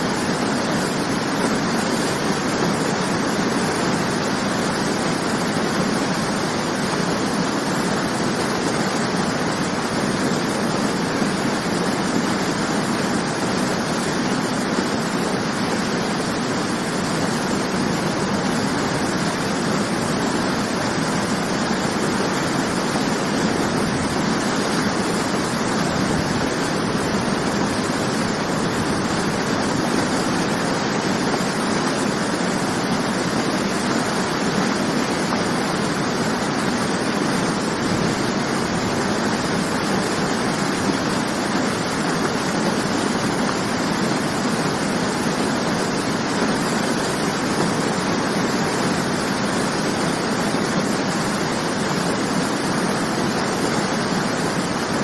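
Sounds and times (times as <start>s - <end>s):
waterfall splashing: 0.0s - 55.0s.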